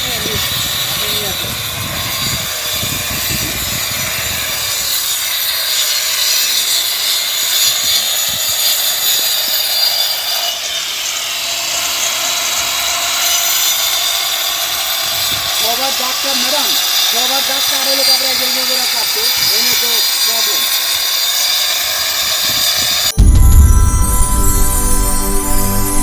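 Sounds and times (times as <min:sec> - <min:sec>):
tools cutting and scraping: 0:00.0 - 0:23.2.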